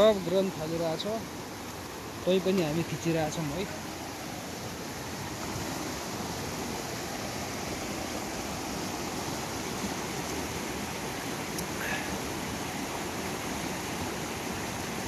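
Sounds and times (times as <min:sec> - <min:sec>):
river rushing over boulders: 0:00.0 - 0:15.0.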